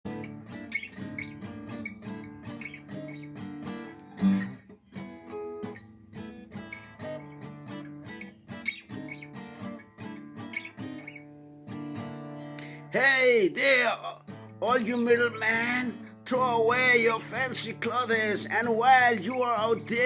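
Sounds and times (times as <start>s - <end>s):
acoustic guitar strumming: 0.1s - 20.0s.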